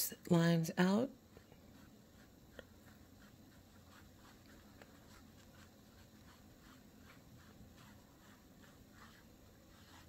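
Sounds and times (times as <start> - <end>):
paintbrush scratching on canvas: 1.3 - 10.0.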